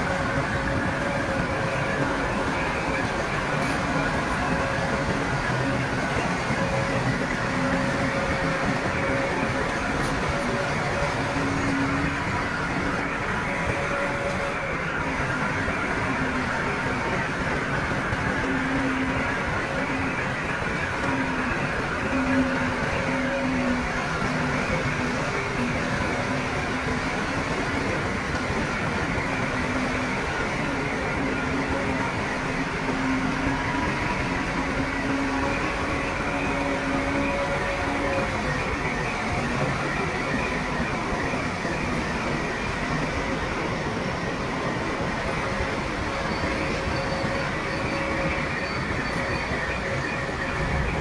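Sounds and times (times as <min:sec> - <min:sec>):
faint whining tones: 0:00.0 - 0:51.0
heavy machinery diesel engine: 0:00.0 - 0:51.0.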